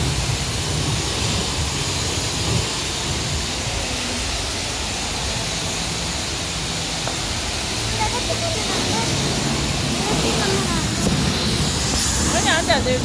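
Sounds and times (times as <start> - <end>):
pressure washer spray hiss: 0.0 - 13.0.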